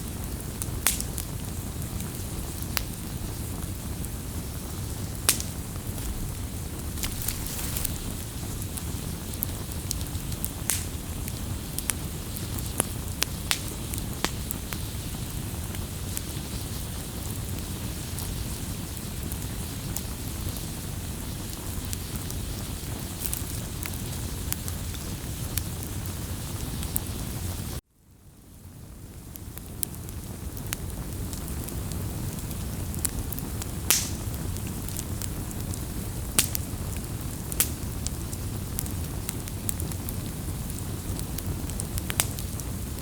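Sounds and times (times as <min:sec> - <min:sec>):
campfire crackling and popping: 0:00.0 - 0:27.8, 0:29.1 - 0:43.0
low rumble of flames: 0:00.0 - 0:43.0.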